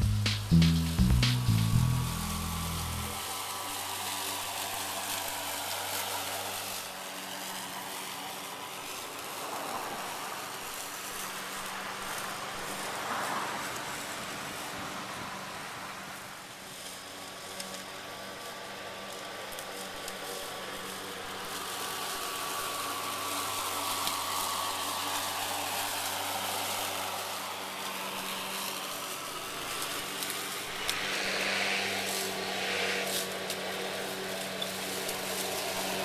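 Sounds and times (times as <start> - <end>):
lawn mower cutting grass: 0.0 - 36.0.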